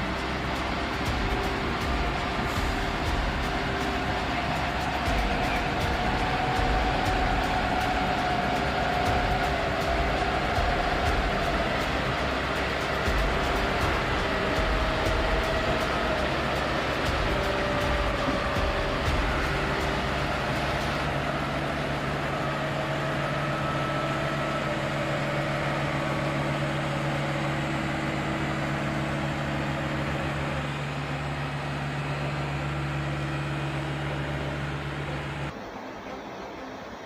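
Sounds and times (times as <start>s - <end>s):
large vehicle engine droning: 0.0s - 37.0s.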